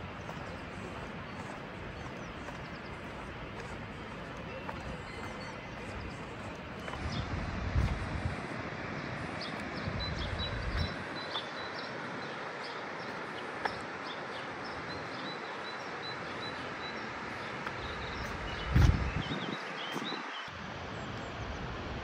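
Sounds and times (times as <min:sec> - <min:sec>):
wind buffeting microphone: 0:00.0 - 0:15.4, 0:16.0 - 0:22.0
small birds chirping: 0:00.0 - 0:21.6.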